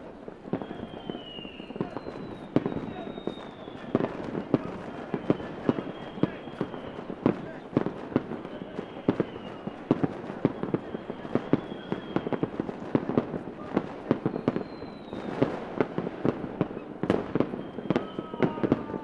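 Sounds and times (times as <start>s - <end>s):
fireworks bangs and cracks: 0.0s - 19.0s
fireworks whistling: 0.0s - 19.0s.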